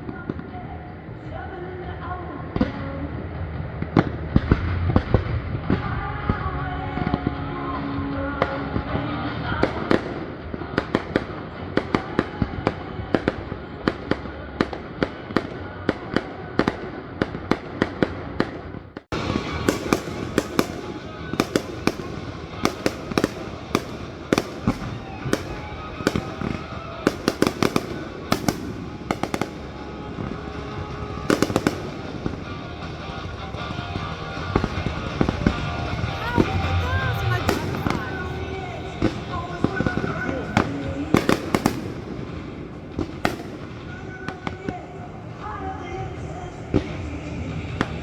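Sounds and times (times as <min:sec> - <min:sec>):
fireworks exploding: 0:00.0 - 0:48.0.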